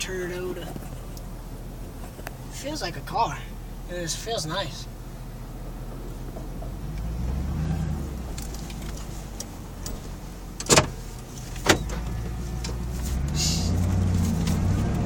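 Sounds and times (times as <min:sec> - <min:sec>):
car engine low drone: 0:00.0 - 0:15.0.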